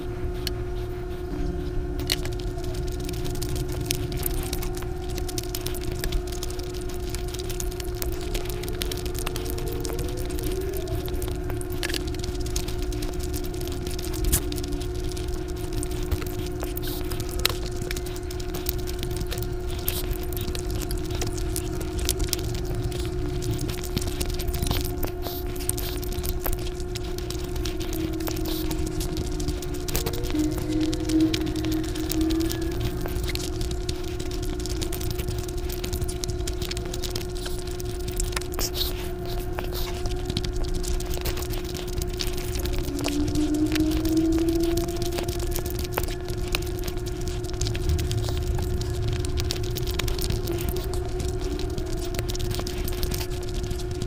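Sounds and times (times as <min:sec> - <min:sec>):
fingers mixing wet rice: 0:00.0 - 0:54.0
mouth chewing food: 0:00.0 - 0:54.0
steady hum: 0:00.0 - 0:54.0
steady low tone: 0:00.0 - 0:54.0.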